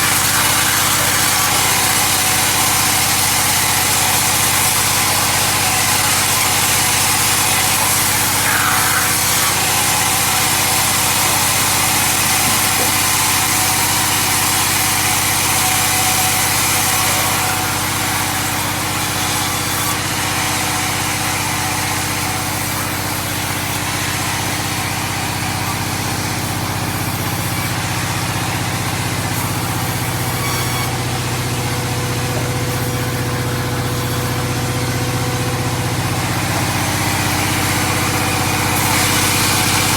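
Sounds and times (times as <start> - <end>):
engine-driven saw cutting timber: 0.0 - 39.9.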